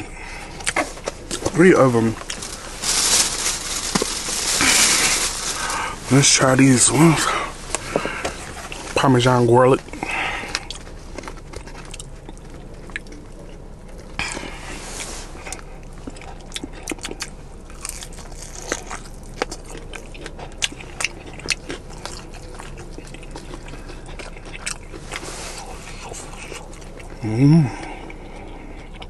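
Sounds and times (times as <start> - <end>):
person chewing crunchy chicken: 0.0 - 9.0, 9.8 - 14.8, 15.4 - 29.0.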